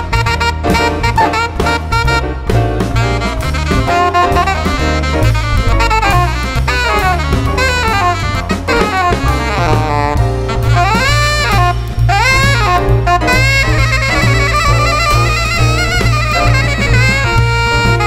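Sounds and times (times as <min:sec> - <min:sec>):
alto saxophone jazz solo: 0:00.0 - 0:18.0
double bass: 0:00.0 - 0:18.0
drum kit: 0:00.0 - 0:18.0
piano: 0:00.0 - 0:18.0.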